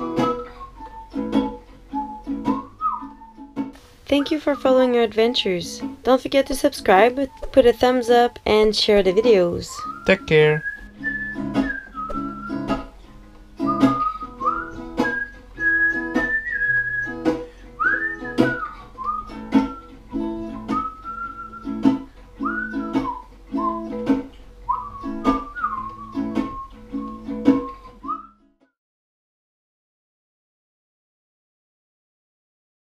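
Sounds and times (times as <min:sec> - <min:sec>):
whistled melody: 0:00.0 - 0:12.9, 0:13.6 - 0:28.8
acoustic guitar strumming: 0:00.0 - 0:28.4.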